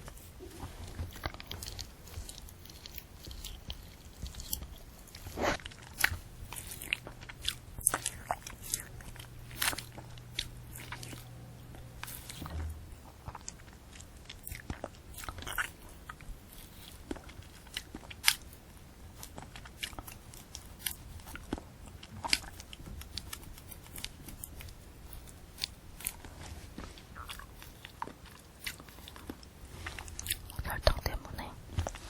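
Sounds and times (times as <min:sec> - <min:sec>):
crunchy chewing of candy apple: 0:00.0 - 0:32.0.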